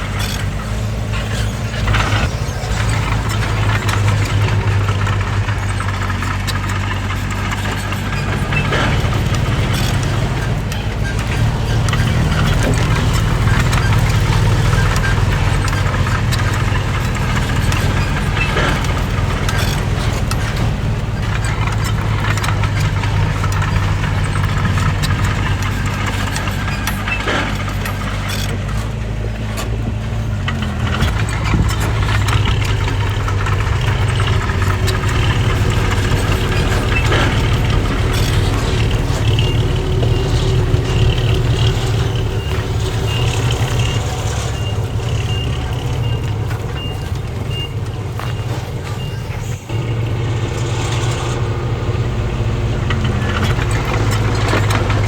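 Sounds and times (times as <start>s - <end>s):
bulldozer diesel engine running: 0.0s - 55.0s
metal clanking and rattling: 0.0s - 55.0s.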